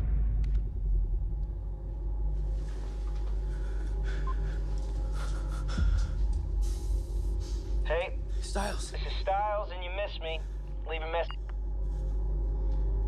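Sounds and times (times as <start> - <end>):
deep low rumble: 0.0 - 13.0
faint hum: 0.0 - 13.0.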